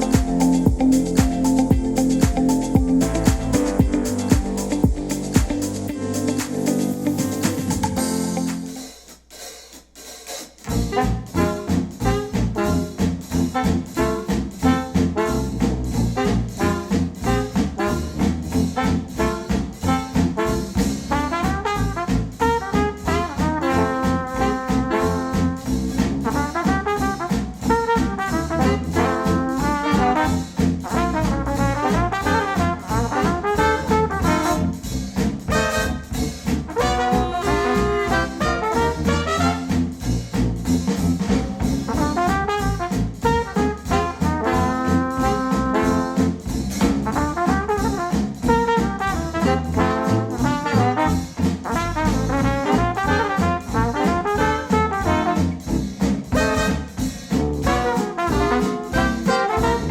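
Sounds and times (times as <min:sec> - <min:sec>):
jazzy brass band music: 0:00.0 - 0:59.9.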